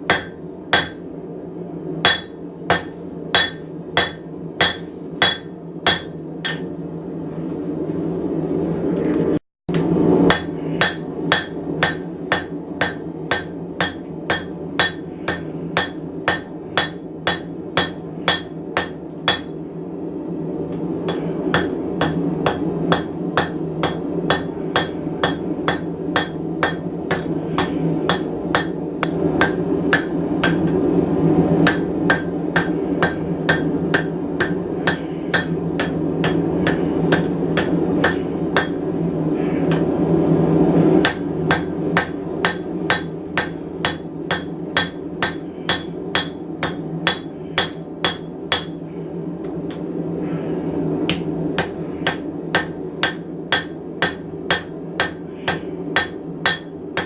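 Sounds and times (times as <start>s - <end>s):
hammer striking steel on anvil: 0.0s - 1.3s, 2.0s - 7.0s, 9.7s - 19.7s, 21.1s - 30.9s, 31.6s - 39.9s, 41.0s - 49.8s, 51.1s - 57.0s
steady low rumble: 0.0s - 57.0s.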